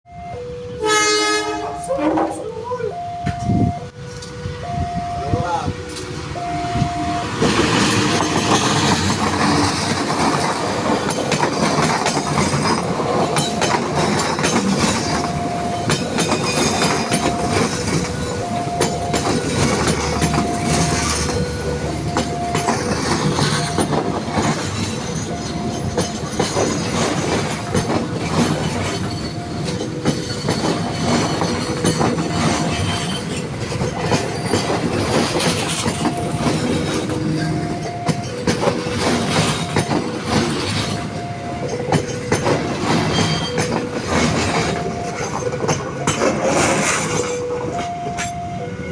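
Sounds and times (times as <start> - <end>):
train wheels clattering: 7.2 - 48.8.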